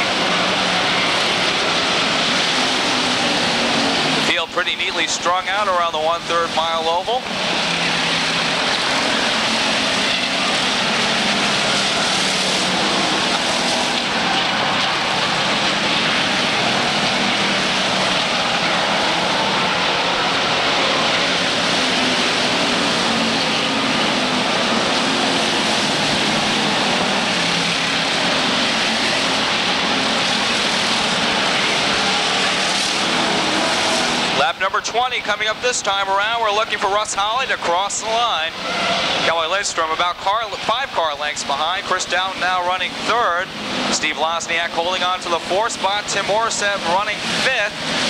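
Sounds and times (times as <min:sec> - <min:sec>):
race car engines droning: 0:00.0 - 0:48.0.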